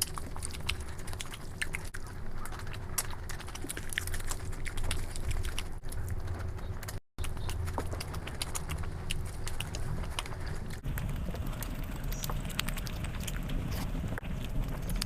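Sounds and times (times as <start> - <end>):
chewing: 0.0 - 15.0
mouth and food clicks: 0.0 - 15.0.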